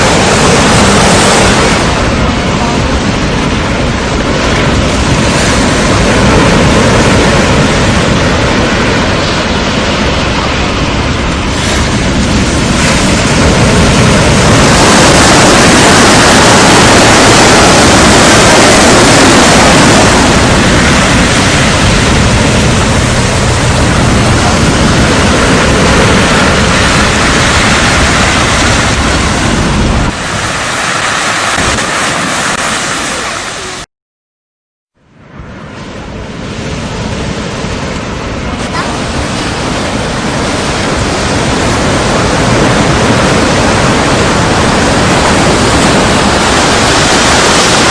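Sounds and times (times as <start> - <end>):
wind buffeting the microphone: 0.0 - 33.3, 35.6 - 47.9
waves breaking on the shore: 0.0 - 33.9, 35.1 - 47.9.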